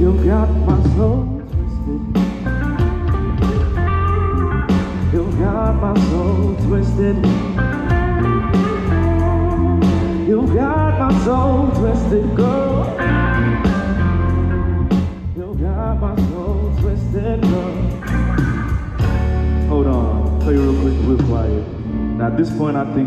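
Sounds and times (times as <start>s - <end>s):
bass and drums: 0.0s - 23.0s
electric guitar lead: 0.0s - 23.0s.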